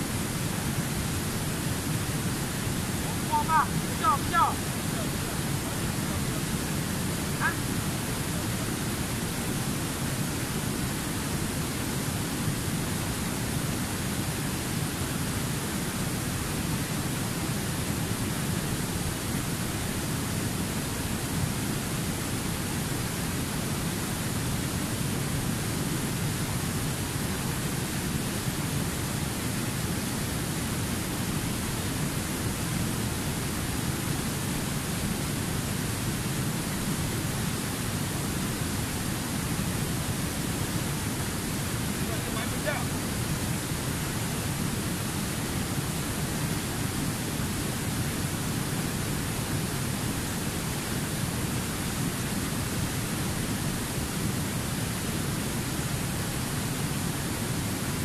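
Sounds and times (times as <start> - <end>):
river rushing over rapids: 0.0 - 58.0.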